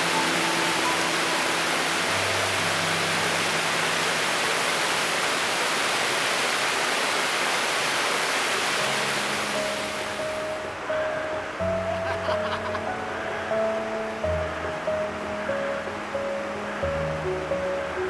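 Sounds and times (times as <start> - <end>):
stream rushing over boulders: 0.0 - 18.0.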